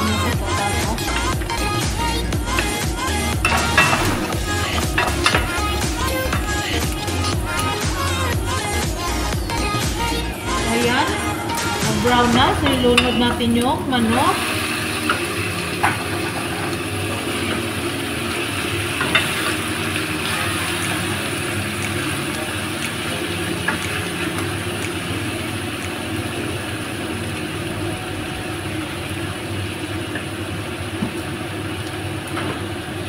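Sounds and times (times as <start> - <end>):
chicken sizzling in a pan: 0.0 - 10.2, 12.6 - 33.0.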